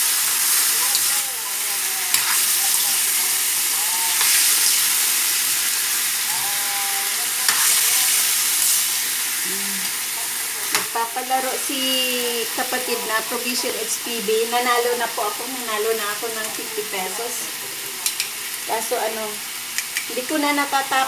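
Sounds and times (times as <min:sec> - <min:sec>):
chicken sizzling in hot oil: 0:00.0 - 0:21.0.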